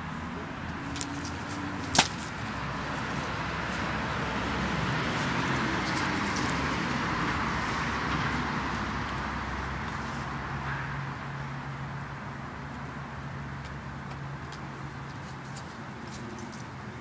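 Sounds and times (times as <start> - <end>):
vehicle running noise: 0.0 - 17.0.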